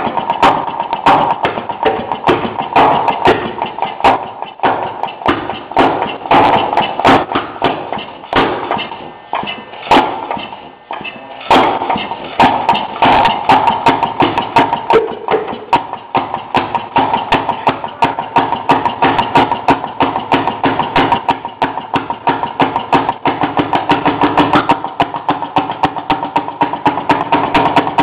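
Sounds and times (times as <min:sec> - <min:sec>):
two-stroke engine popping: 0:00.0 - 0:28.0.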